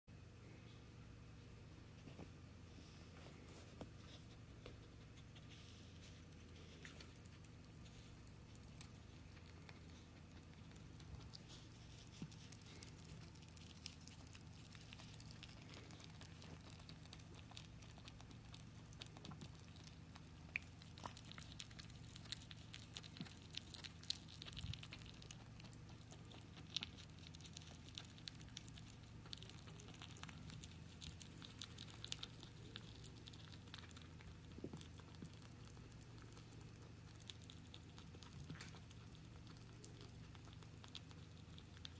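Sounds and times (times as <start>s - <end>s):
rabbit chewing: 0.4s - 41.9s.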